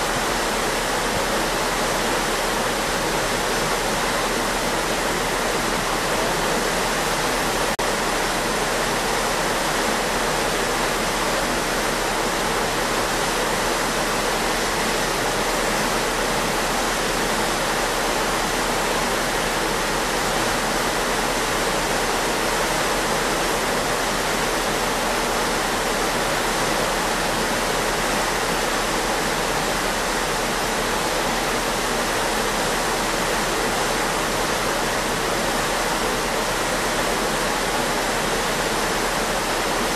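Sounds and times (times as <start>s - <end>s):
ship's wake water rushing: 0.0s - 39.9s.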